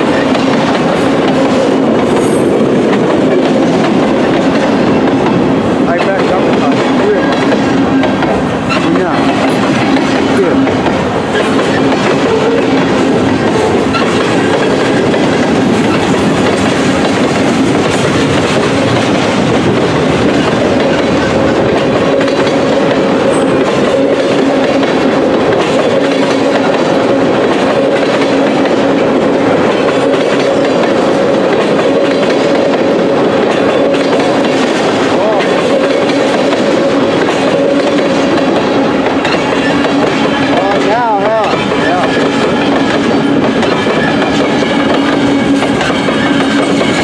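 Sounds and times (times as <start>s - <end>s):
freight train wheels clattering on rail: 0.0s - 47.0s.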